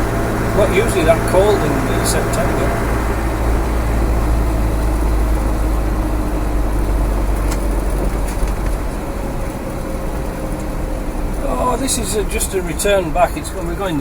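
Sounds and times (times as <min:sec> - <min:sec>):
diesel engine rumble: 0:00.0 - 0:14.0
road noise: 0:00.0 - 0:14.0.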